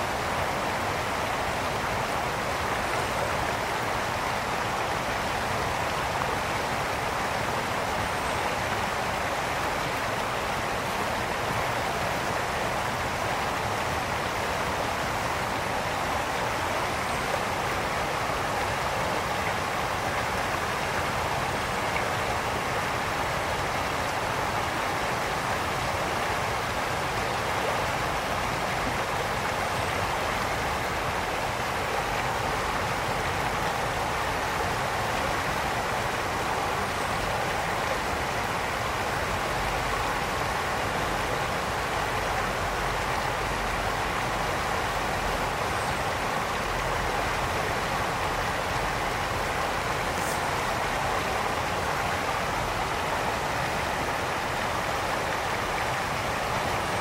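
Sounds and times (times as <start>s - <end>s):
brook flowing: 0.0s - 57.0s.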